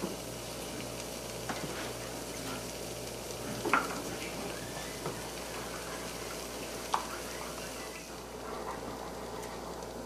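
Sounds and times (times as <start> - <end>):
gravy sizzling in a skillet: 0.0 - 10.0.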